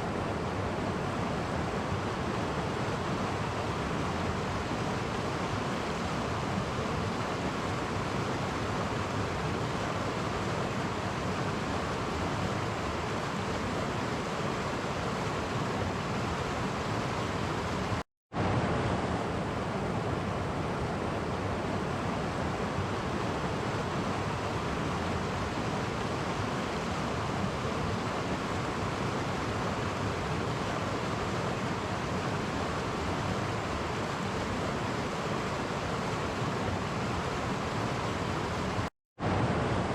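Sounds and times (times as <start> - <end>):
stream rushing over cascades: 0.0 - 39.9.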